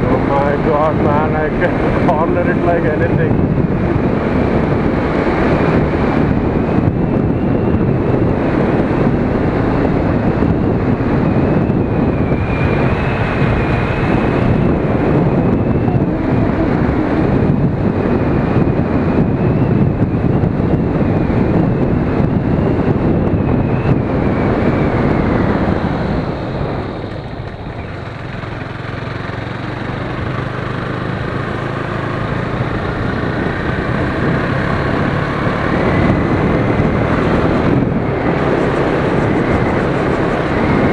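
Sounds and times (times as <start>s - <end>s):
motorcycle engine: 0.0s - 40.9s
wind noise on microphone: 0.0s - 40.9s.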